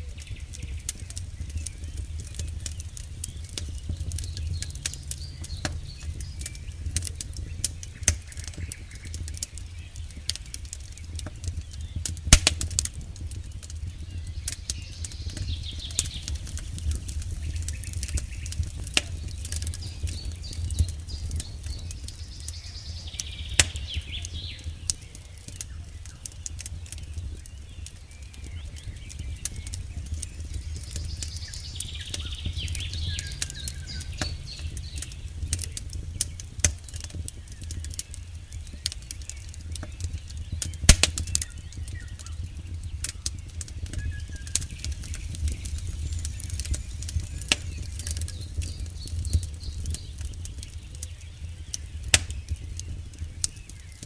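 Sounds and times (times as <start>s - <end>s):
low rumble of flames: 0.0s - 54.0s
wood crackling and popping: 0.0s - 54.0s.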